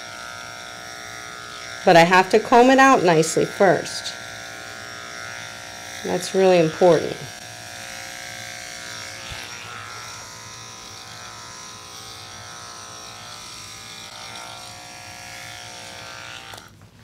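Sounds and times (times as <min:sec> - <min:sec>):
electric dog clipper humming: 0:00.0 - 0:17.0.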